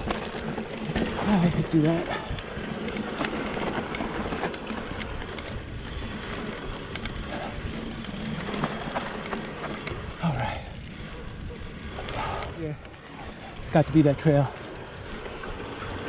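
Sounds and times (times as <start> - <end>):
bike tyres rattling over rocks: 0.0 - 16.0.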